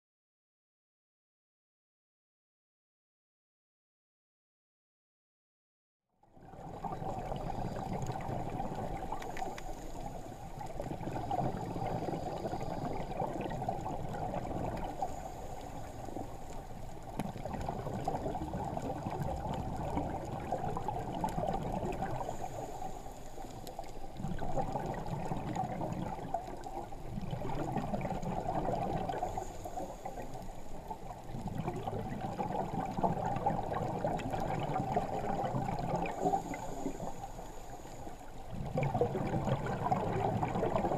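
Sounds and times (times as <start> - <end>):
underwater bubbles gurgling: 6.2 - 40.9.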